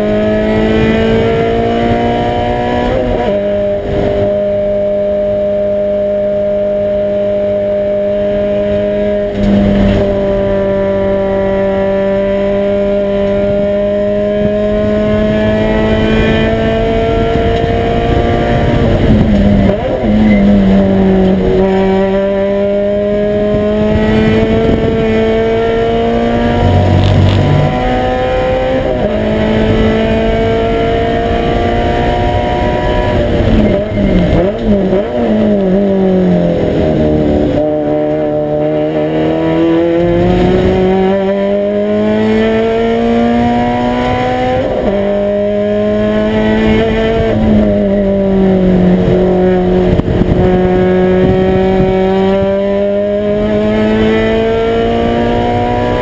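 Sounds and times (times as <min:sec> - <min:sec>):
engine throttle blips: 0:00.0 - 0:56.0
race car engine accelerating: 0:00.0 - 0:56.0.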